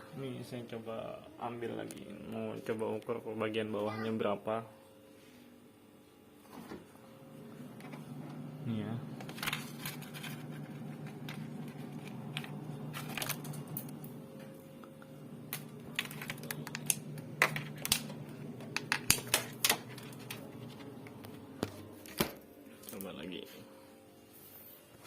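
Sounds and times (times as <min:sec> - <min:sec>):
steady low hum: 0:04.4 - 0:25.0.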